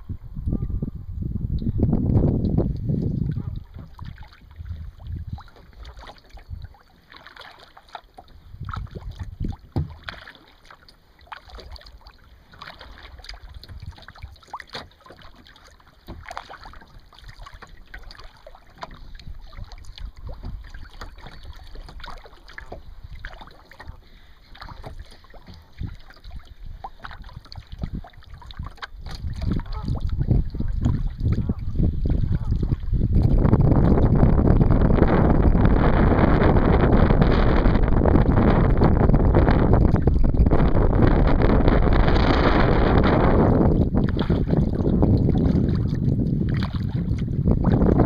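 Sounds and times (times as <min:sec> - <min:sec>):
wind rumble on microphone: 0:00.0 - 0:06.8, 0:08.2 - 0:10.3, 0:11.5 - 0:15.4, 0:16.1 - 0:48.0
water dripping from paddle: 0:01.5 - 0:35.6, 0:38.2 - 0:41.0, 0:43.0 - 0:48.0
paddle splashing through water: 0:02.1 - 0:48.0.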